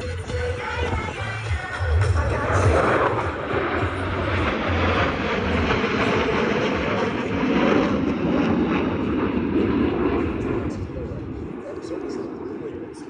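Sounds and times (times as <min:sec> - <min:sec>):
low rumble: 0:00.0 - 0:12.3
jets flying past: 0:01.9 - 0:13.0.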